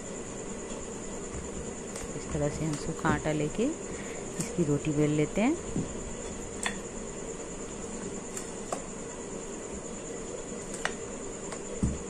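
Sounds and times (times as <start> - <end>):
background hiss with high tone: 0.0 - 12.0.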